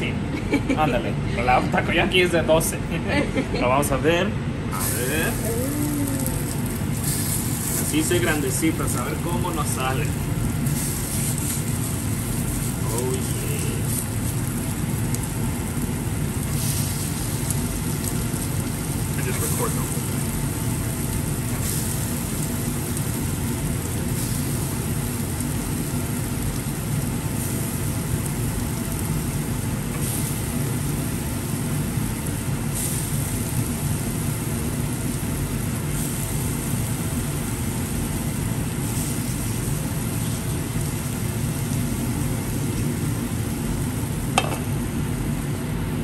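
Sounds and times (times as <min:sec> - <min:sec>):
meatballs sizzling in a pan: 0:04.8 - 0:45.7.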